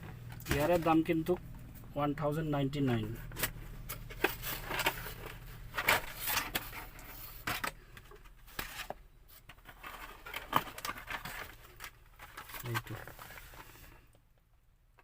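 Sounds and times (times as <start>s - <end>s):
packaging rustling and scraping: 0.1s - 1.5s, 2.9s - 14.1s.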